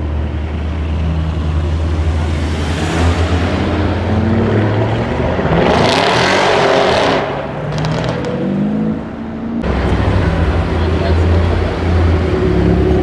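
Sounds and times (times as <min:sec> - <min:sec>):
car engine accelerating hard: 0:01.5 - 0:13.0.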